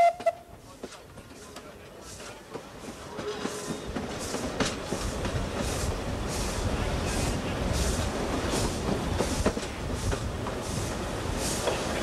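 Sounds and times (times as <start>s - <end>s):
wheels rumbling on rail: 0.0s - 12.0s
steam locomotive exhaust chuffs: 2.0s - 12.0s.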